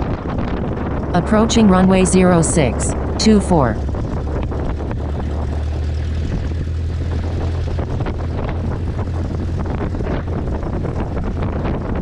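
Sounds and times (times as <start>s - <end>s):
small plane engine droning: 0.0s - 12.0s.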